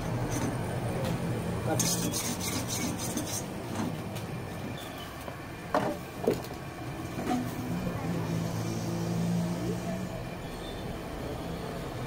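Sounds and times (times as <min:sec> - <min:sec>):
passing traffic engine hum: 0:00.0 - 0:12.0.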